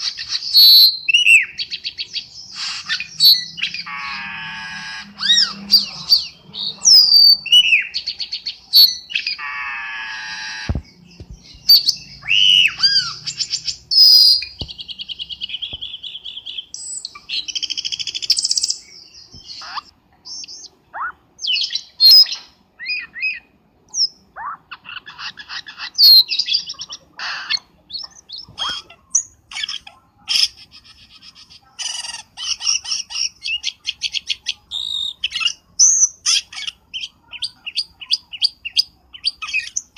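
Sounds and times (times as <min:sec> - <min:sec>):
bird calls with whistles and squawks: 0:00.0 - 0:39.9.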